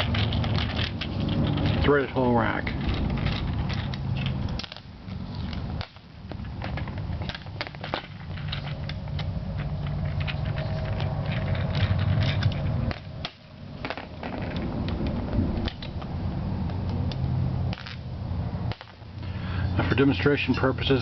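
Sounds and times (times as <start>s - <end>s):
small metallic clicks and clatter: 0.0s - 18.0s
low steady rumble: 0.0s - 21.0s.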